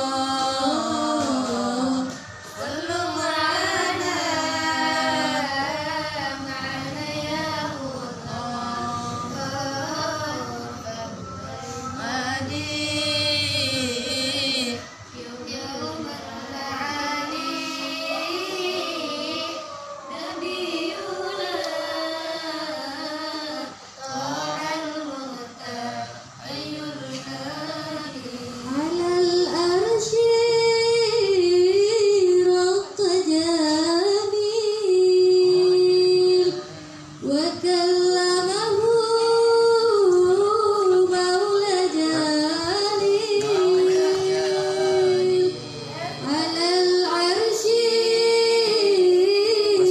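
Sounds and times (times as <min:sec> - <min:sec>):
girl singing: 0:00.0 - 0:49.9.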